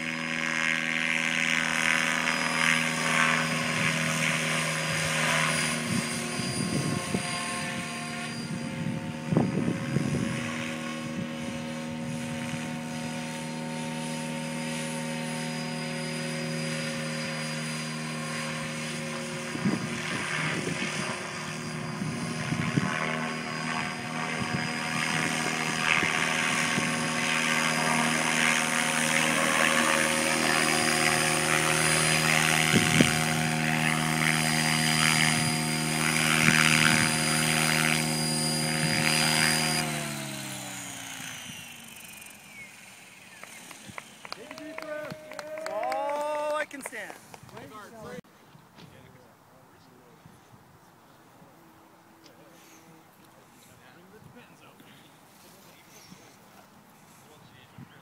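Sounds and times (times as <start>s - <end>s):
rc helicopter rotor whine: 0.0s - 48.2s, 50.0s - 58.0s.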